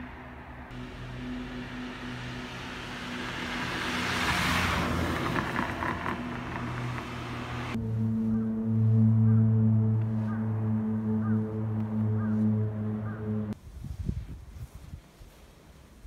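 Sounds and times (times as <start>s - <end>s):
car passing: 0.0s - 13.6s.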